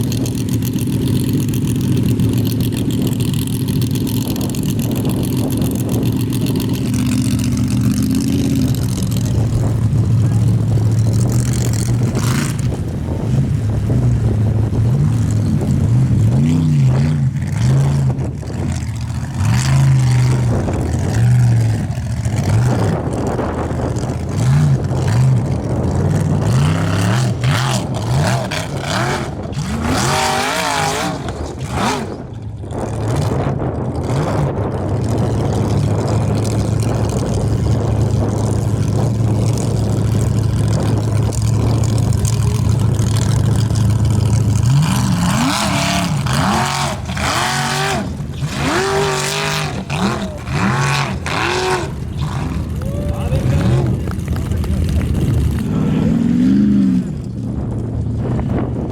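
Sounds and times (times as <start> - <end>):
truck engine revving hard: 0.0 - 58.9.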